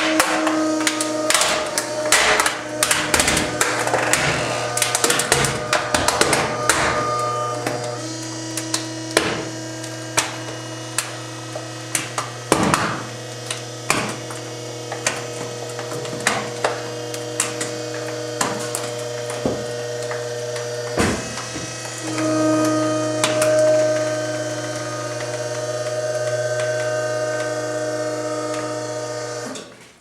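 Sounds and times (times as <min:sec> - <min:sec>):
compactor motor humming: 0:00.0 - 0:30.0.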